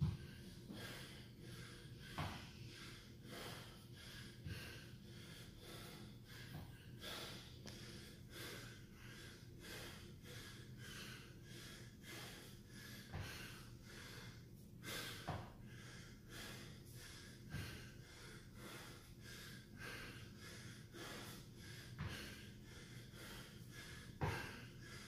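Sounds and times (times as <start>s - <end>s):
man breathing hard: 0.0s - 25.0s.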